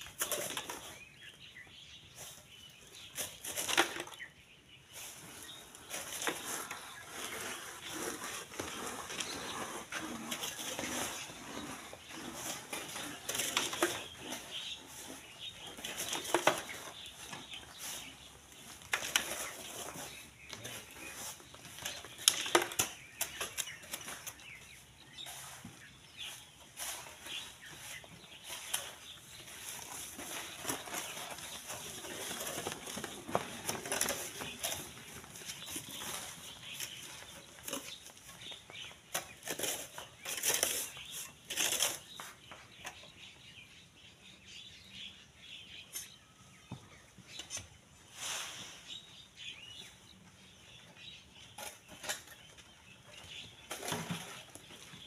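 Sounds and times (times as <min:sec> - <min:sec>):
sand and gravel being dug: 0:00.0 - 0:42.8, 0:48.0 - 0:49.8.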